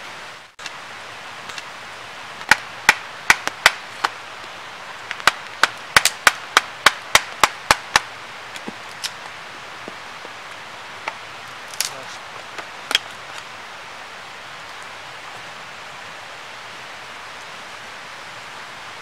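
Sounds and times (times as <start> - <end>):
rushing river and waterfall: 0.0 - 19.0.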